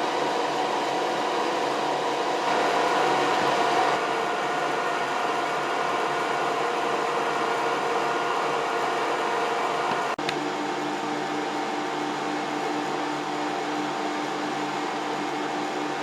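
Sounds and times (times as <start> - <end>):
electric fan motor whirring: 0.0 - 16.0.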